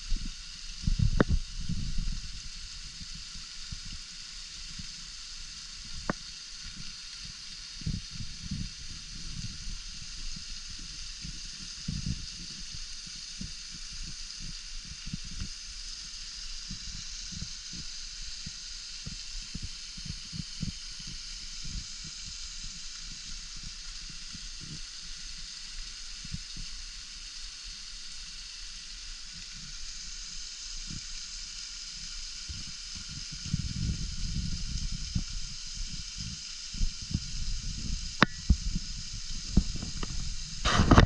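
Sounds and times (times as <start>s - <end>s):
waterfall hissing: 0.0s - 41.0s.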